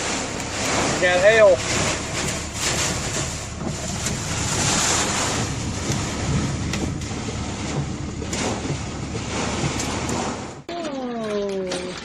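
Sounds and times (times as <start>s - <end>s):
hailstones striking: 0.0s - 10.7s
wind and hail rushing: 0.0s - 10.7s.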